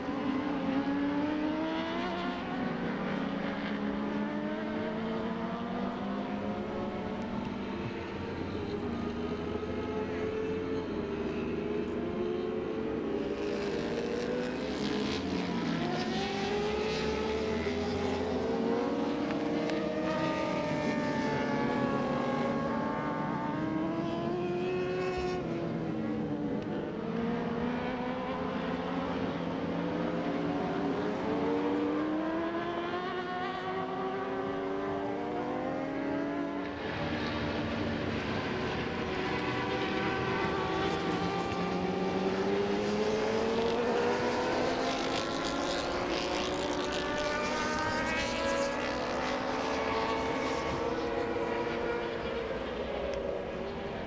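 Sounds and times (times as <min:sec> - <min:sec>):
motorbike engines revving: 0:00.0 - 0:54.0.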